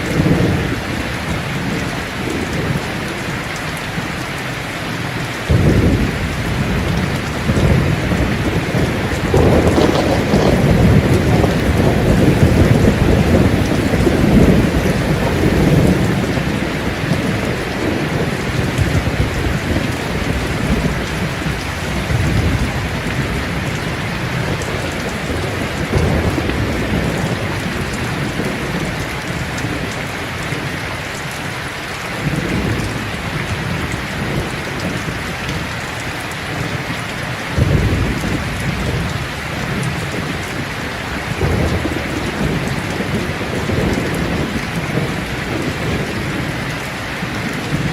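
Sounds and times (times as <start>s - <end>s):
rolling thunder: 0.0s - 3.0s, 5.5s - 30.8s, 37.6s - 47.9s
heavy rain: 0.0s - 47.9s.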